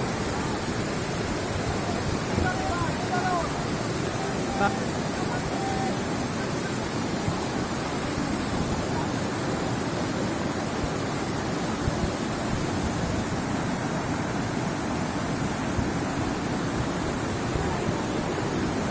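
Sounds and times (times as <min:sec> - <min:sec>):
stream water gushing over rocks: 0:00.0 - 0:18.9.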